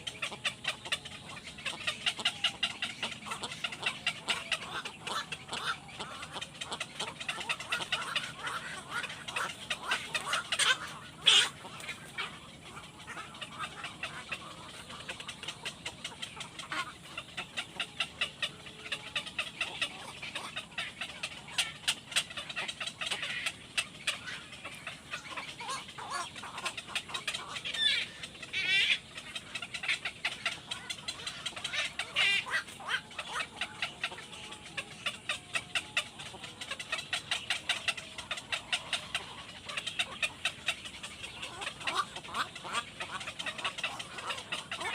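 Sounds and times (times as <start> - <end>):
young birds cheeping: 0.0 - 44.9.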